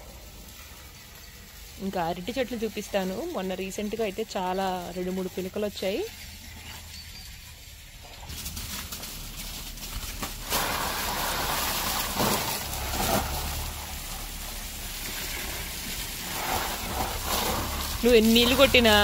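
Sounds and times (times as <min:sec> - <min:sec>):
water spraying onto plants: 0:00.0 - 0:19.0.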